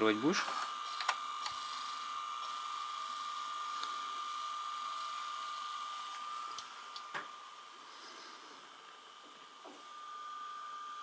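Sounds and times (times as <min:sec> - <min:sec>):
tape mechanism high whine: 0:00.0 - 0:11.0.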